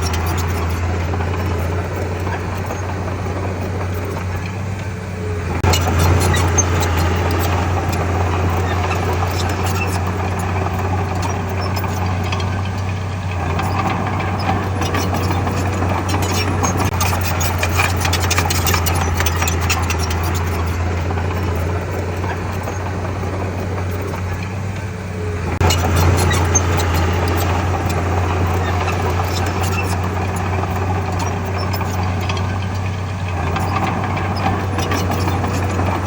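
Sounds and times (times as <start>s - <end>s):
heavy diesel engine droning: 0.0s - 36.0s
rapid clatter of small clicks: 5.6s - 24.9s, 25.5s - 36.0s.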